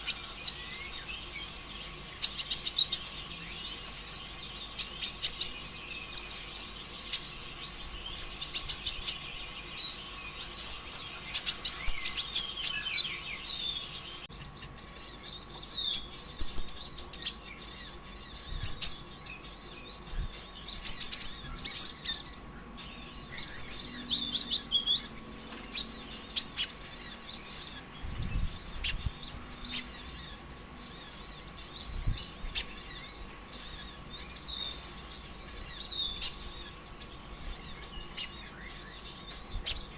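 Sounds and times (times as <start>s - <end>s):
sunbird twittering: 0.0s - 39.9s.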